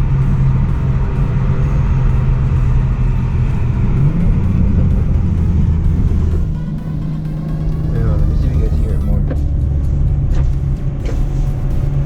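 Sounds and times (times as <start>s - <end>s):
car engine and exhaust drone: 0.0s - 12.0s.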